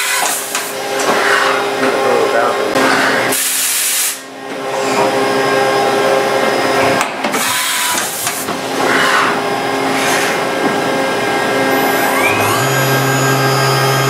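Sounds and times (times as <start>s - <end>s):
lathe machine whine and hum: 0.0s - 14.0s.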